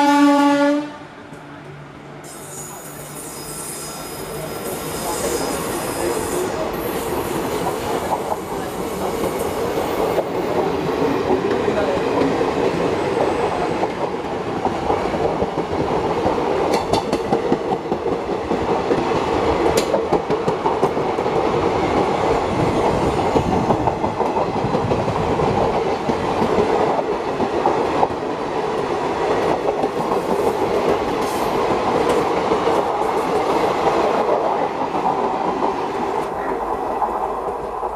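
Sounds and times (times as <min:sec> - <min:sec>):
train coaches rolling past: 0:00.0 - 0:37.9.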